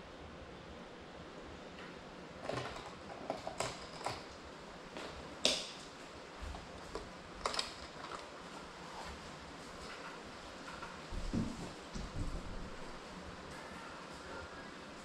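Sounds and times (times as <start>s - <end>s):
room hiss: 0.0s - 3.2s, 4.2s - 15.0s.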